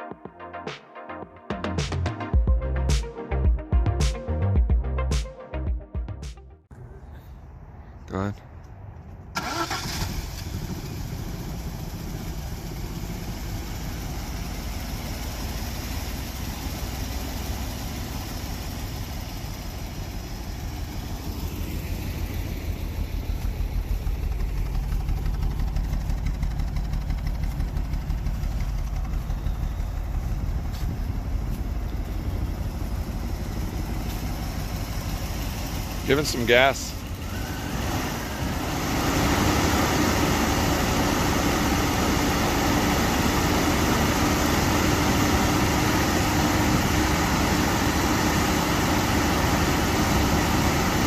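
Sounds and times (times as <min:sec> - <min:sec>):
car engine idling: 0:09.3 - 0:51.0.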